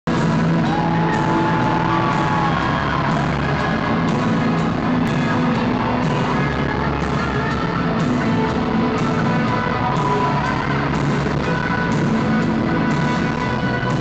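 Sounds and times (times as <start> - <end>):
live rock band playing loudly: 0.1 - 14.0.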